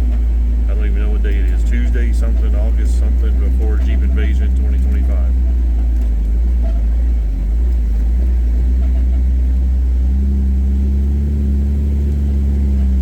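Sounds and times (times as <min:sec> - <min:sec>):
hum: 0:00.0 - 0:13.0
vehicle engine low rumble: 0:00.0 - 0:13.0.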